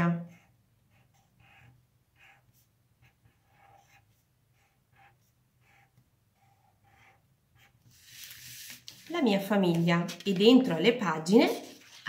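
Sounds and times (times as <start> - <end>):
marker scratching on paper: 0.1 - 12.0.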